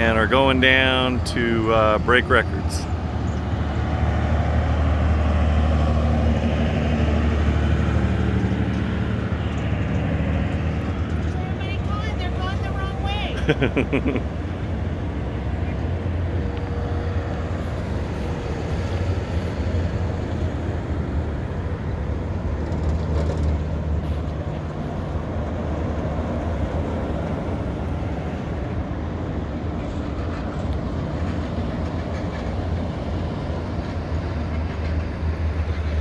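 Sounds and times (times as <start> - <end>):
faint engine hum: 0.0 - 36.0
vehicles rolling low rumble: 0.0 - 36.0.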